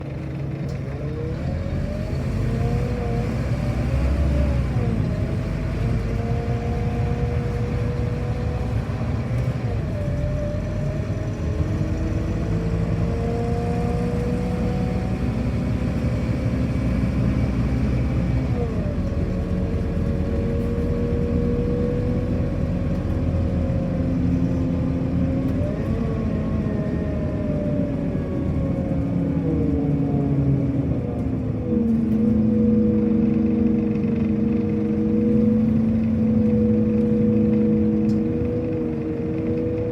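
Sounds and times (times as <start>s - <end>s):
bus engine running under load: 0.0s - 39.9s.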